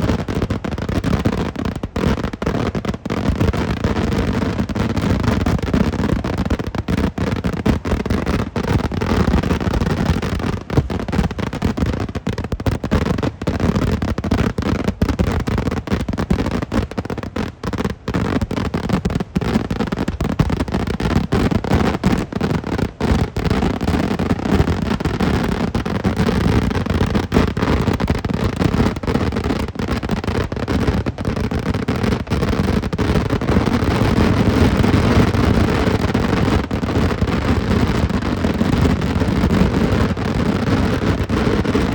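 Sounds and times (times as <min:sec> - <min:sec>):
firecracker explosions: 0:00.0 - 0:41.9.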